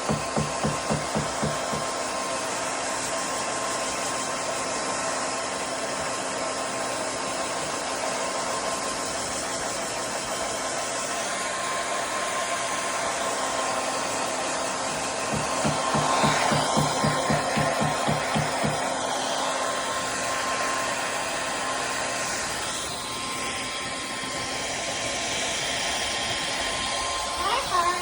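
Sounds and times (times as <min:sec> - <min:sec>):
blow dryer running: 0:00.0 - 0:28.0.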